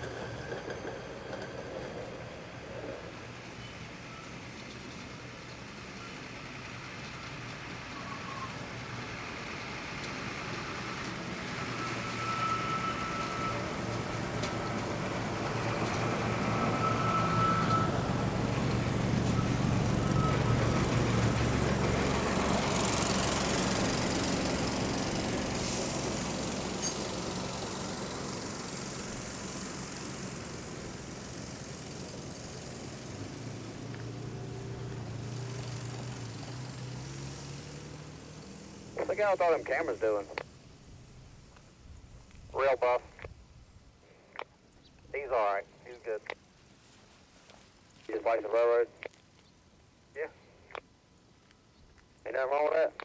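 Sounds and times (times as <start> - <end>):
rail vehicle engine hum: 0.0 - 53.0.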